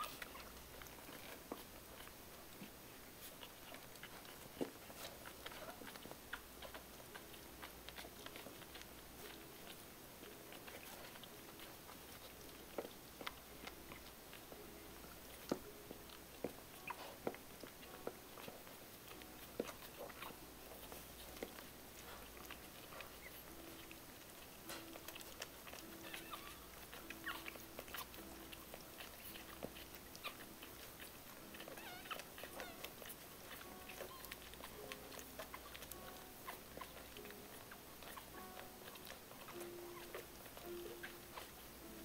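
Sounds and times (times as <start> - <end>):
puppies suckling: 0.0 - 42.0
puppies whining softly: 0.0 - 42.0.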